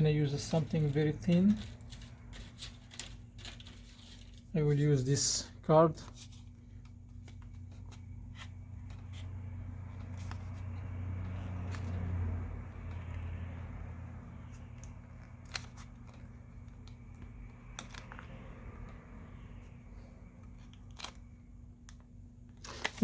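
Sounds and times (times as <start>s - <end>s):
low steady hum: 0.0s - 23.0s
plastic card scraping: 0.3s - 23.0s.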